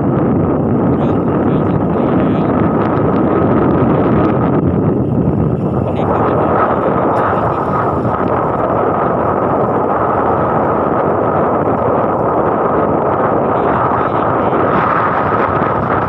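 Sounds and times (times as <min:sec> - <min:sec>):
motorcycle road noise: 0:00.0 - 0:16.0
wind buffeting microphone: 0:00.0 - 0:16.0.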